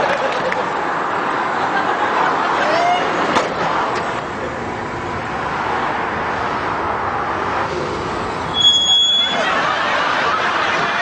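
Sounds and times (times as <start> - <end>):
road traffic roar: 0.0 - 11.0.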